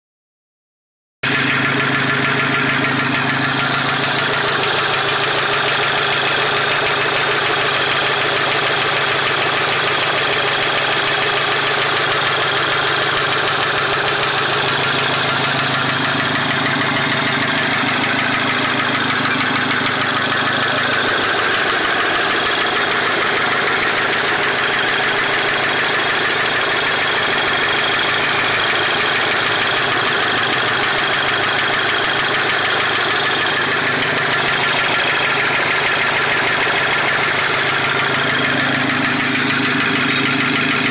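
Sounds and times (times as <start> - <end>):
car engine running: 1.2 - 40.9
engine knocking: 1.2 - 40.9.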